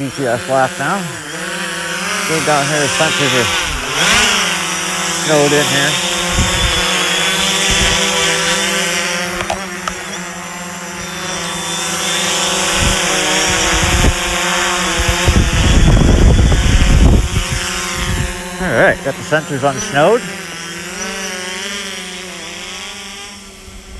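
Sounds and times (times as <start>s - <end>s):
drone propellers whining: 0.0s - 23.9s.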